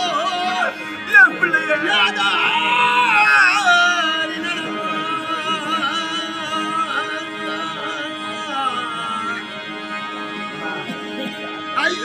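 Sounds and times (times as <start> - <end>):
steady held drone: 0.0 - 12.0.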